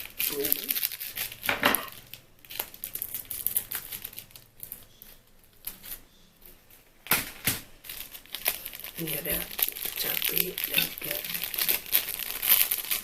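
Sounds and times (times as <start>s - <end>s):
plastic sachets crinkling: 0.0s - 6.0s, 7.1s - 13.0s.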